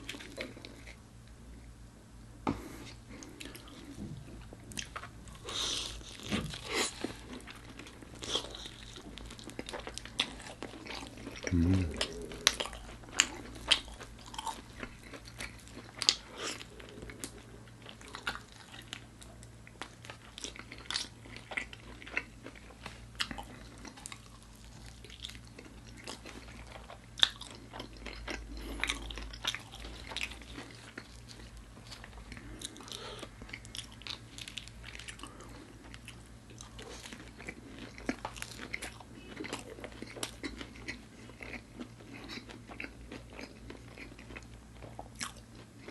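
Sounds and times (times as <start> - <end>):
crunchy chewing: 4.7 - 45.9.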